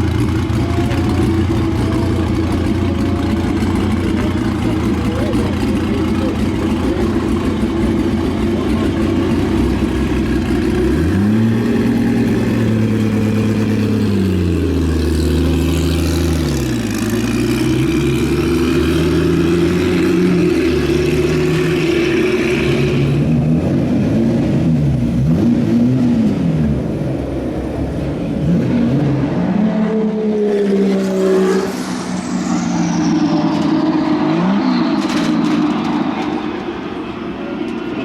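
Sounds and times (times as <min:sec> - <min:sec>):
racing car engine revving: 0:00.0 - 0:38.0.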